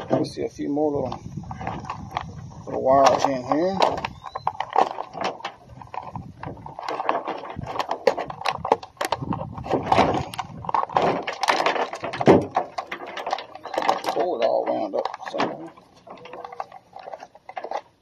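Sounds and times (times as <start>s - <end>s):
parts clicking and scraping: 0.0s - 18.0s.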